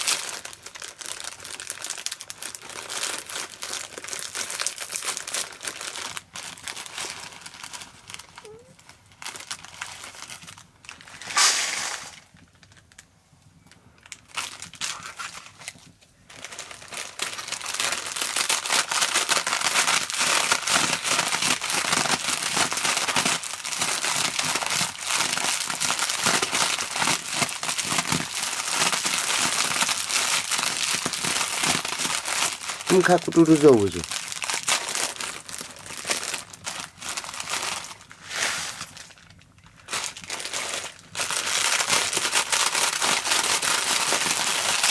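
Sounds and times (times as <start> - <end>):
plastic noodle packet crinkling: 0.0 - 11.2, 13.7 - 44.9.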